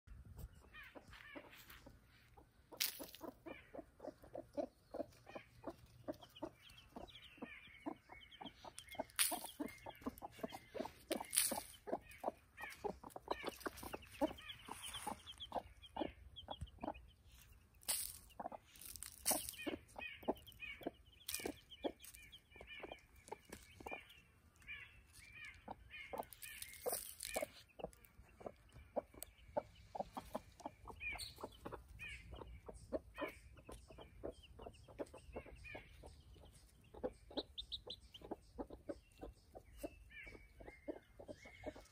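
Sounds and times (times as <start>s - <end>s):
chicks peeping: 0.1s - 41.9s
hens clucking: 0.3s - 24.2s, 25.5s - 41.9s.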